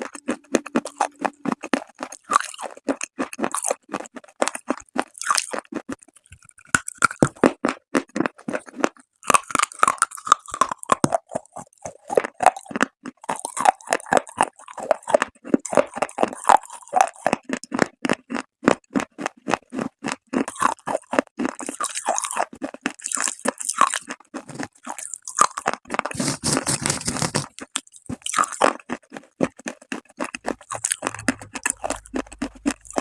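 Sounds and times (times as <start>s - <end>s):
chewing brittle baked clay: 0.0s - 33.0s.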